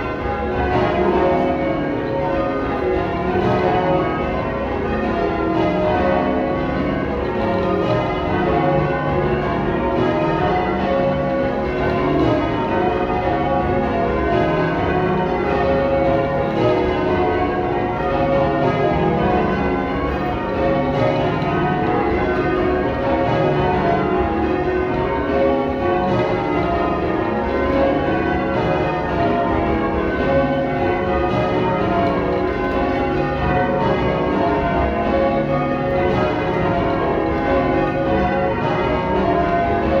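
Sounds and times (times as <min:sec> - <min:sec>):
church bells ringing: 0:00.0 - 0:40.0.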